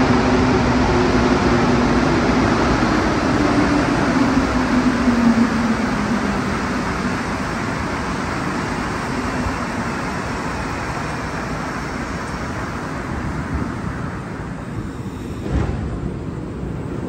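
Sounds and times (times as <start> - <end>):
train pulling into station: 0.0 - 17.0.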